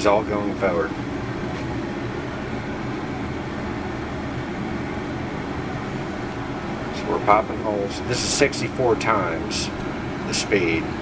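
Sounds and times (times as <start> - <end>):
low mechanical hum and rumble: 0.0 - 11.0.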